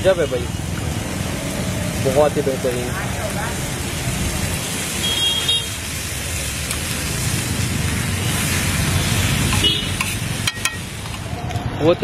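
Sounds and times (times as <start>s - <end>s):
food sizzling in oil on griddle: 0.0s - 11.6s.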